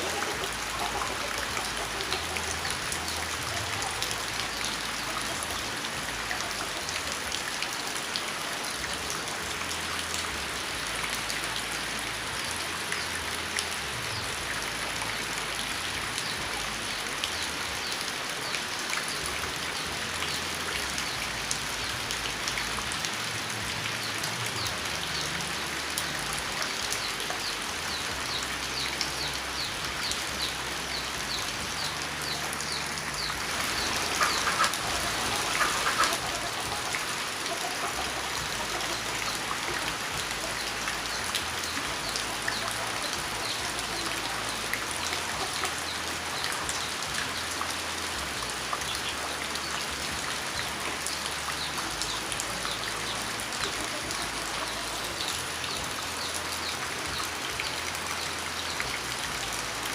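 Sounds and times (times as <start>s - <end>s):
rain splashing on surface: 0.0s - 59.9s.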